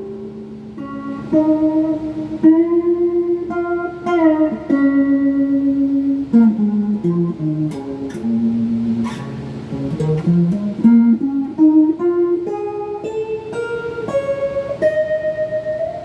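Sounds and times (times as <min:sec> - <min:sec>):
electric guitar lead with bends: 0:00.0 - 0:16.0.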